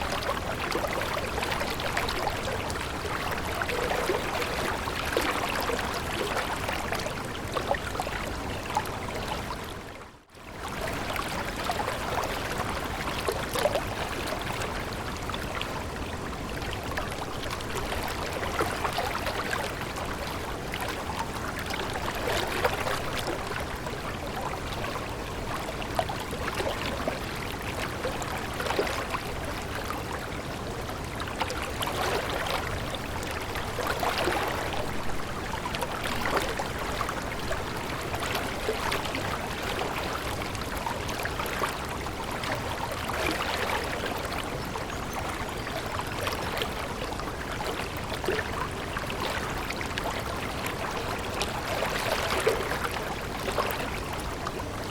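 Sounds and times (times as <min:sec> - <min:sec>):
small water splashes: 0:10.5 - 0:54.9.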